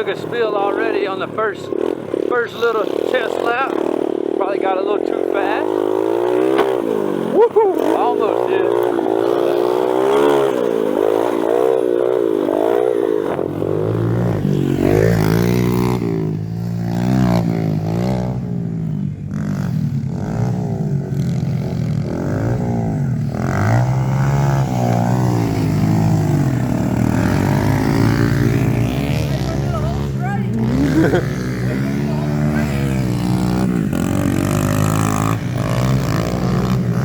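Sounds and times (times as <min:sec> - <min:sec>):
lower-pitched engine: 0:00.0 - 0:37.0
pit bike engines revving: 0:00.0 - 0:37.0.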